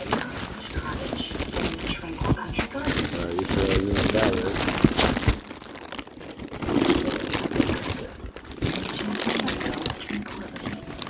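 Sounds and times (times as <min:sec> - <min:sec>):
cardboard box rustling and crunching: 0:00.0 - 0:11.0.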